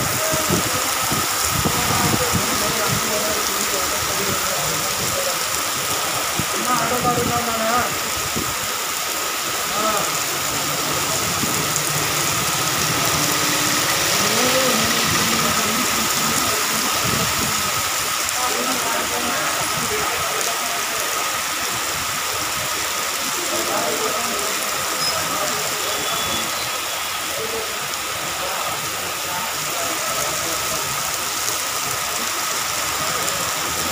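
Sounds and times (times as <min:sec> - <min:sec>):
heavy rain on road and vehicles: 0:00.0 - 0:33.9.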